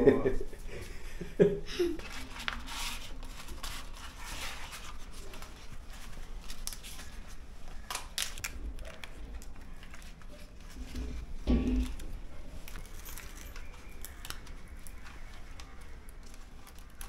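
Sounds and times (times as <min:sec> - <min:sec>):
leaf rustling and crackling: 0:02.0 - 0:17.0.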